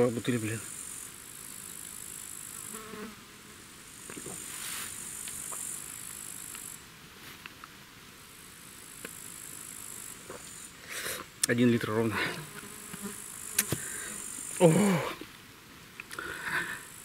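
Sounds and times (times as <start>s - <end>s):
insects chirring: 0.0s - 7.0s, 7.6s - 17.0s.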